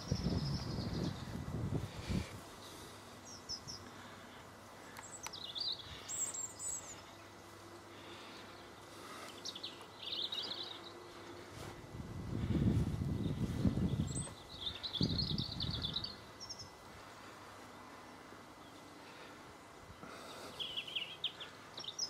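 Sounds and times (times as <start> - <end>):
faint outdoor background: 0.0 - 22.0
small birds chirping: 0.0 - 22.0.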